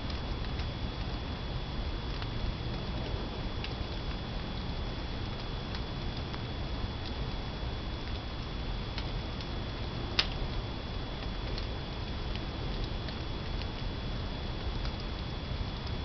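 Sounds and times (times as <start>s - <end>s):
fire crackling: 0.0s - 16.0s
fire rumbling: 0.0s - 16.0s.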